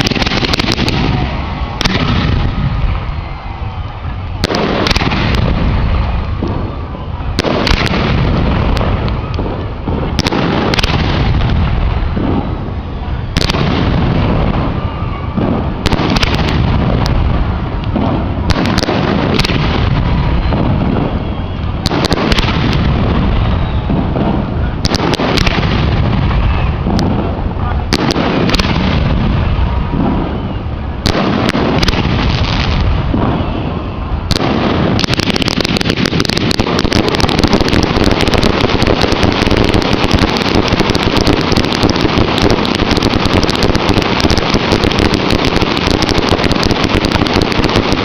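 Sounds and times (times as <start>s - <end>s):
fireworks booming: 0.0s - 48.0s
fireworks cracking: 0.0s - 48.0s.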